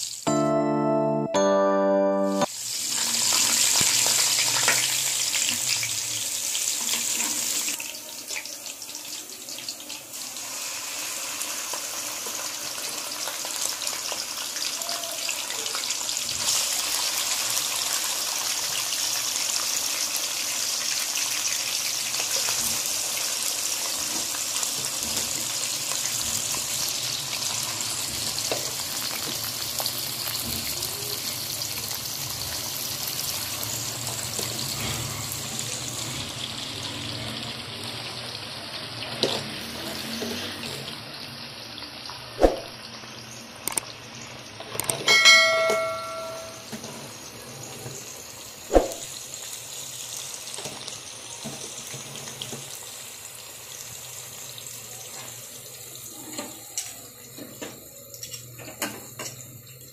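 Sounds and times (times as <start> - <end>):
oil sizzling in a wok: 0.0 - 0.3, 2.5 - 59.9.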